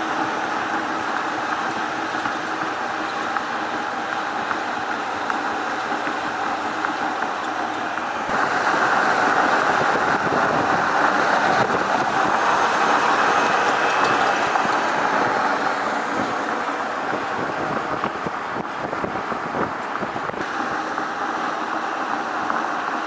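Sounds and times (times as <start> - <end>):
truck road and wind noise: 0.0 - 23.0.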